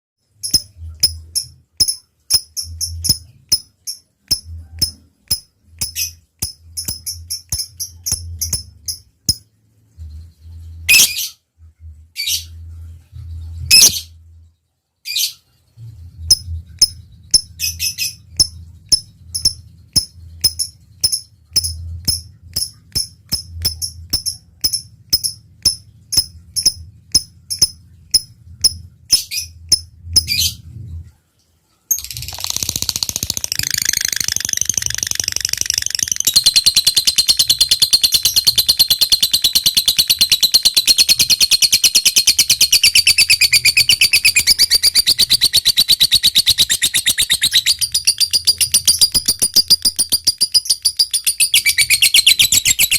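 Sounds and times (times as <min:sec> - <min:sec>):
bird chirping sharp chips: 0:00.4 - 0:09.5, 0:16.3 - 0:30.6, 0:31.9 - 0:52.9.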